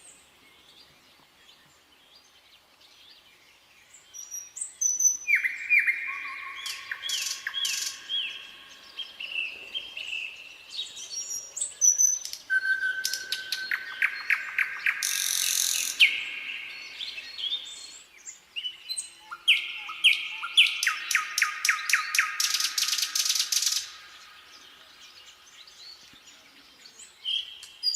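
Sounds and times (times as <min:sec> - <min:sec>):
nightingale singing: 0:03.8 - 0:27.9.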